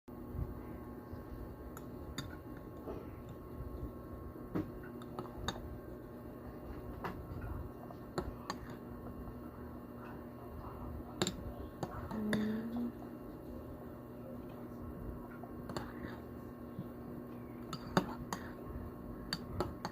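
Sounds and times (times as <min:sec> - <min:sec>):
faint steady hum: 0:00.1 - 0:19.9.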